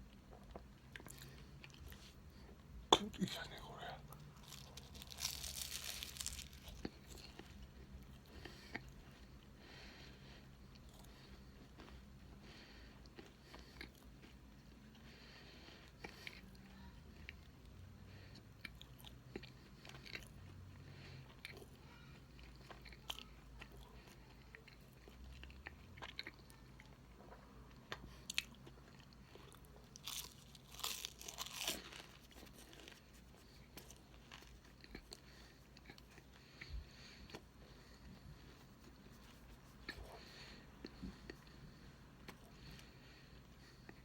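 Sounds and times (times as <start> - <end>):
person chewing cake: 0.0 - 44.0
crunchy chewing: 4.1 - 16.6, 17.2 - 44.0.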